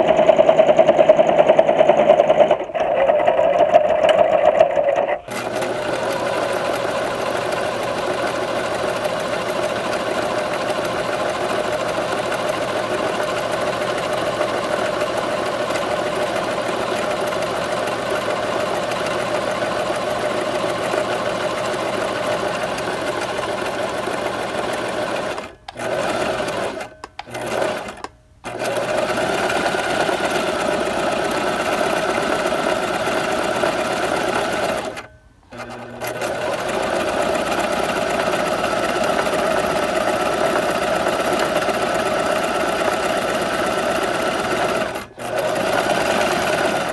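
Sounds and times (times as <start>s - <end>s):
sewing machine running: 0.0s - 46.9s.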